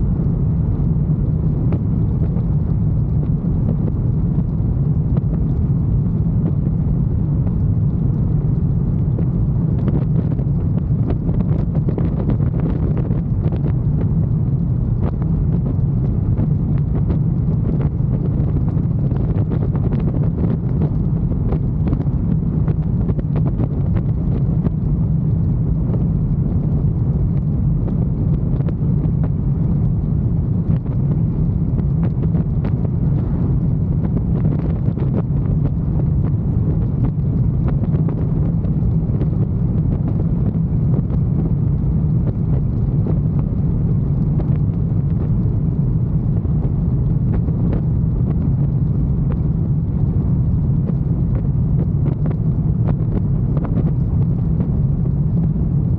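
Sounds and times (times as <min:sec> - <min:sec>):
motorcycle engine drone: 0:00.0 - 0:55.9
wind rushing over microphone: 0:00.0 - 0:55.9.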